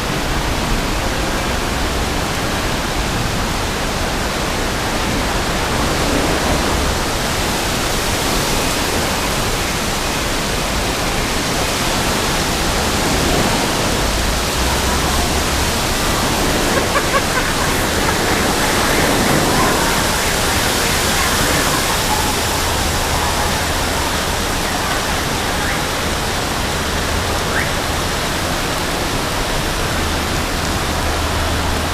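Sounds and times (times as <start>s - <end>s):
rainwater pouring and splashing: 0.0s - 31.9s.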